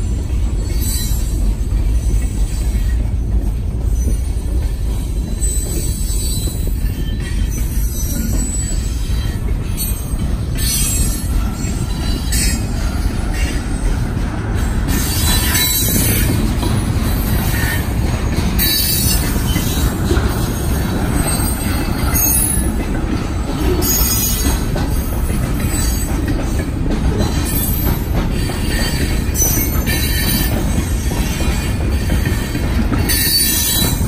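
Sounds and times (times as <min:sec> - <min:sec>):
rumble of train wheels: 0:00.0 - 0:34.0.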